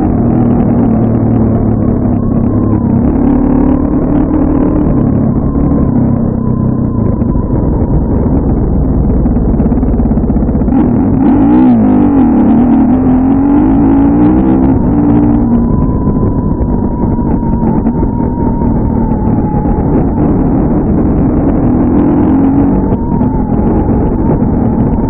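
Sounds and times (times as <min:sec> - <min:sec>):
muffled dirt bike engine: 0:00.0 - 0:25.0.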